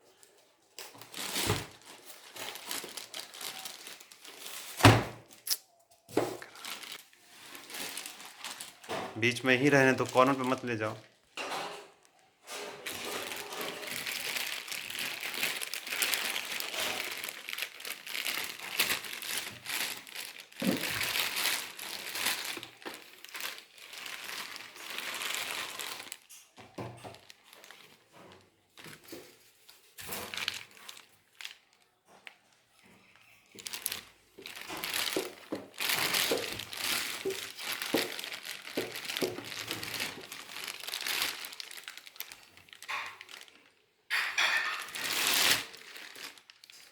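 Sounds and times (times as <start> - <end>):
plastic packaging crinkling: 0.1 - 46.9.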